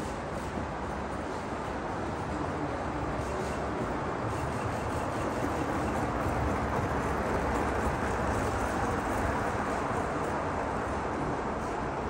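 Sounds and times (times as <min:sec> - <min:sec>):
model train wheels on rails: 0:00.0 - 0:12.0.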